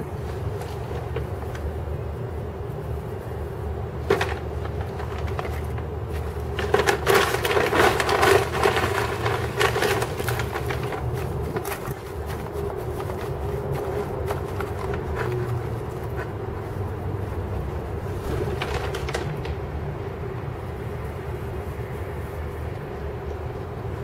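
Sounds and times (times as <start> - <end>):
steady low hum: 0.0 - 24.0
straw rustling and crackling: 0.0 - 24.0.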